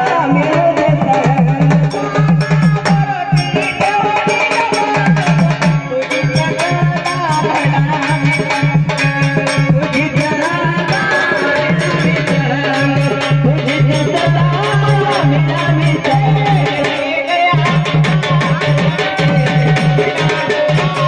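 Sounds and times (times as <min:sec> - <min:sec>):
drums beating quick rhythm: 0:00.0 - 0:21.0.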